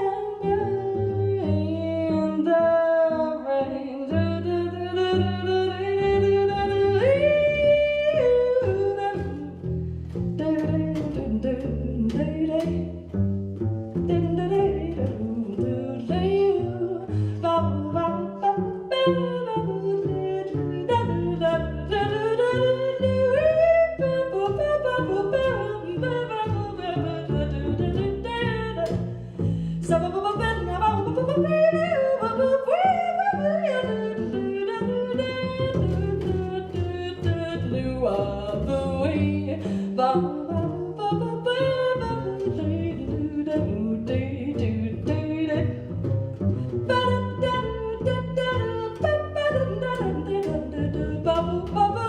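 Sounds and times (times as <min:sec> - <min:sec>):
jazz scat singing: 0:00.0 - 0:52.0
walking double bass line: 0:00.0 - 0:52.0.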